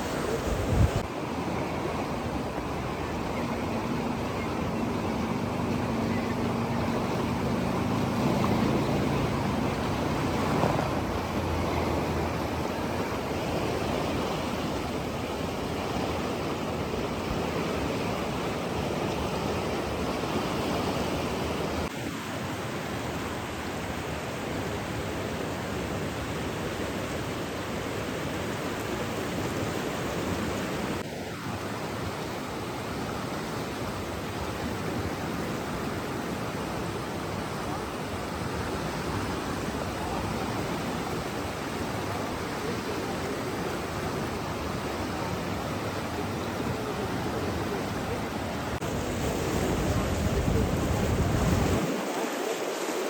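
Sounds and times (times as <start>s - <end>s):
rushing water: 0.0s - 53.0s.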